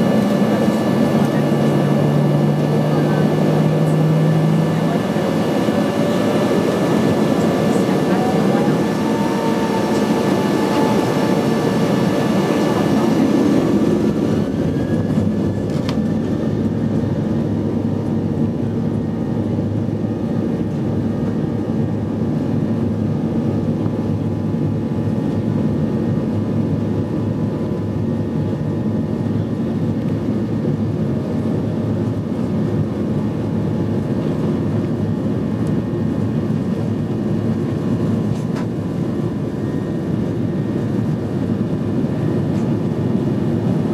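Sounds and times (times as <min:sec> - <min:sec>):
jet engines rumbling in cabin: 0:00.0 - 0:43.9.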